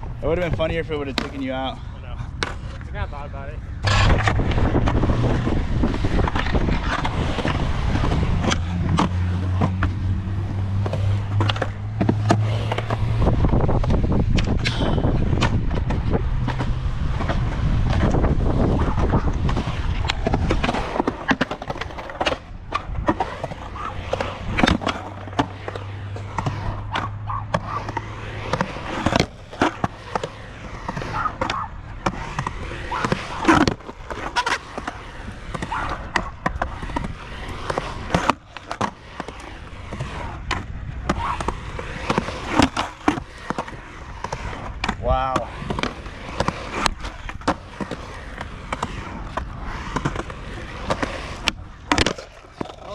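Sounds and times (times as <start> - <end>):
skateboard wheels rolling on pavement: 0.0 - 52.9
skateboard clacks and knocks: 3.8 - 52.9.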